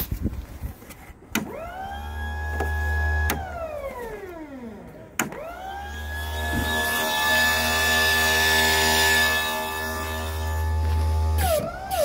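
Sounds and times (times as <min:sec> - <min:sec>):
electric motor whining: 0:01.5 - 0:12.0.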